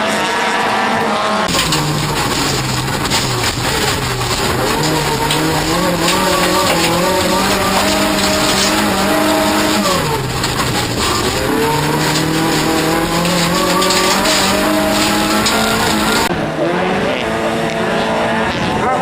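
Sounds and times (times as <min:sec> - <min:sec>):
racing car engine running hard: 0:00.0 - 0:19.0
tyre noise on loose ground: 0:00.0 - 0:19.0.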